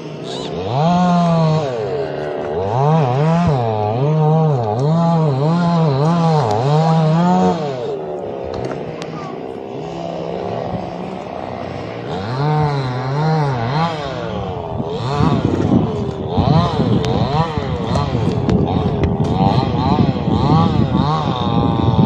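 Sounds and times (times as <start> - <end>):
chainsaw cutting into tree: 0.0 - 22.0.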